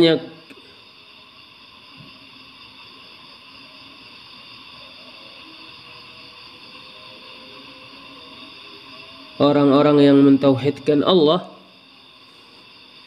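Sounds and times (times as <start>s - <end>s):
low hiss of recording noise: 0.0s - 13.0s.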